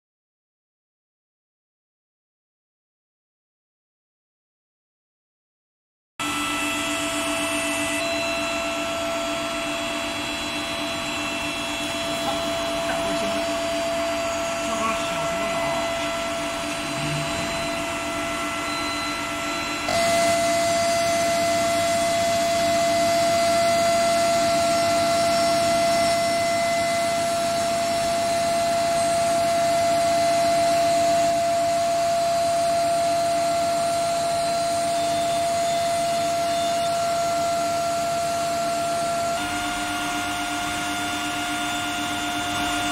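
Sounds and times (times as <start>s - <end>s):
machine hum and hiss: 6.2s - 42.9s
whining tones: 6.2s - 42.9s.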